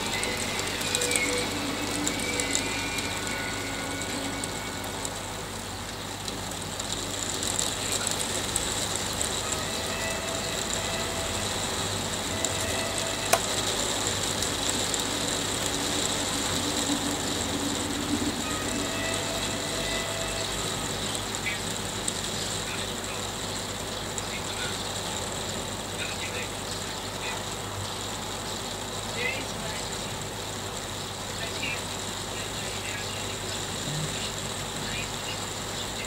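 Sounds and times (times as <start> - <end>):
hail falling: 0.0 - 36.0.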